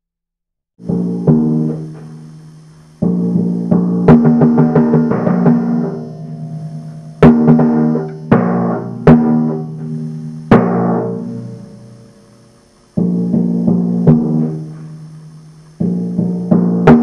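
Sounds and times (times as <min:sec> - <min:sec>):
timpani strokes: 0:00.8 - 0:17.0.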